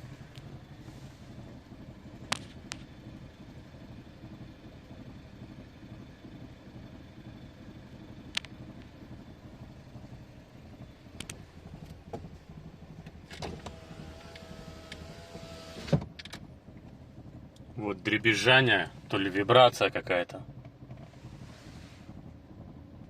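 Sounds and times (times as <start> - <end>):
car engine idling: 0.0 - 23.0
steady whine: 0.0 - 23.0.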